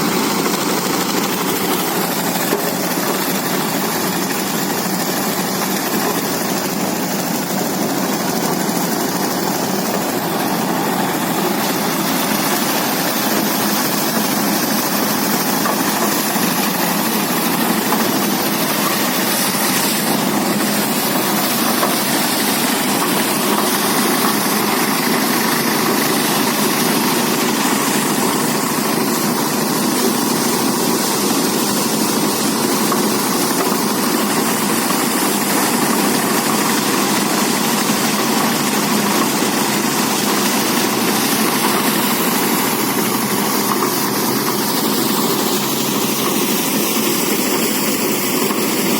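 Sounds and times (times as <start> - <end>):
threshing machine running: 0.0 - 48.9.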